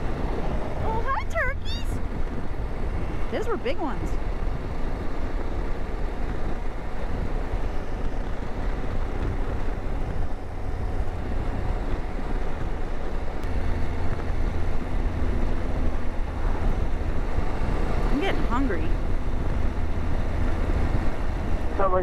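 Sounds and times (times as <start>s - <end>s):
motorcycle engine rumble: 0.0s - 22.0s
wind noise on microphone: 0.0s - 22.0s.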